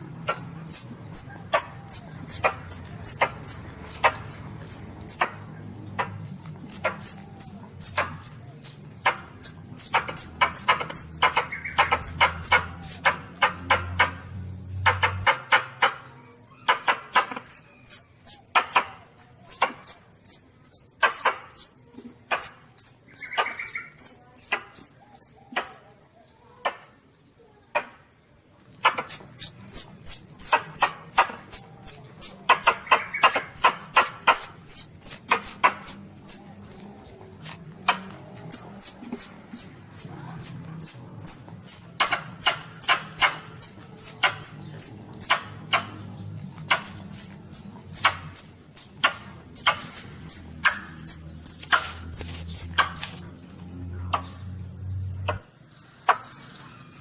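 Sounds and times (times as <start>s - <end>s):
animal high-pitched squeaks: 0.0s - 14.1s, 14.9s - 25.9s, 28.8s - 53.6s, 56.1s - 57.0s.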